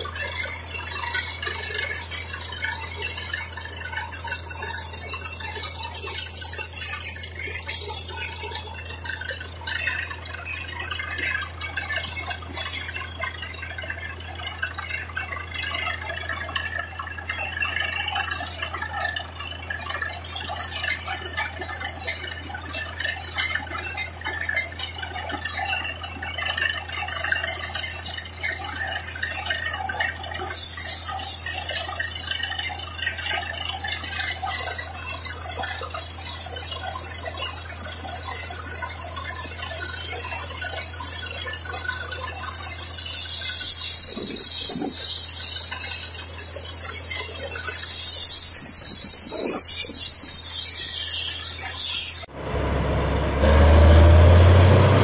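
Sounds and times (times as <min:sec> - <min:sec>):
drilling rig droning: 0:00.0 - 0:55.0.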